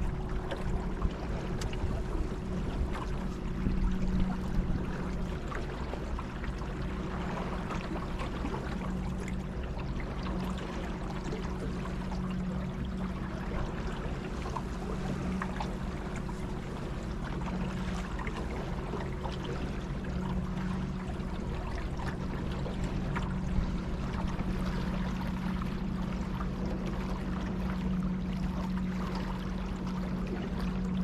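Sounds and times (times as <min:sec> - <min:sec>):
boat motor humming: 0:00.0 - 0:31.0
water splashing along hull: 0:00.0 - 0:31.0.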